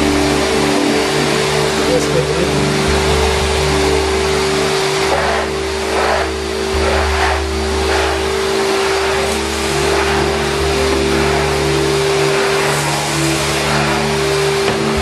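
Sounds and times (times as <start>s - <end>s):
wet vacuum running: 0.0s - 15.0s
floor tool on wet concrete: 2.7s - 15.0s.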